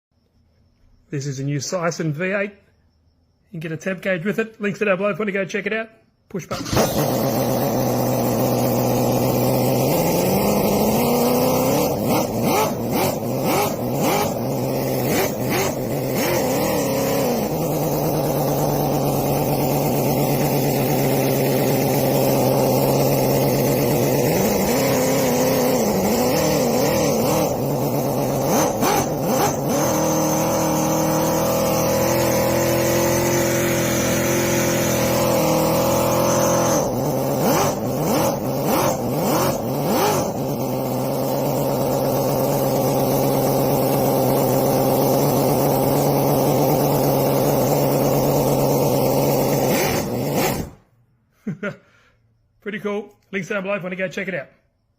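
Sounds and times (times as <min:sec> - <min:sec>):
engine crackles: 0:06.5 - 0:51.0
model engine revving: 0:06.5 - 0:51.0.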